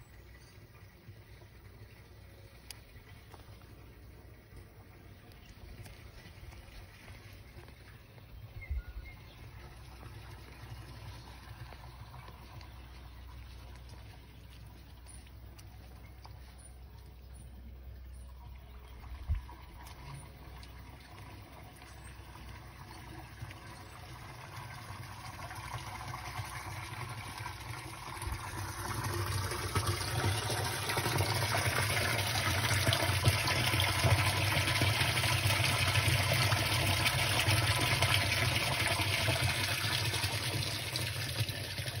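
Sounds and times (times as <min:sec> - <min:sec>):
water rushing along gutter: 0:00.0 - 0:42.0.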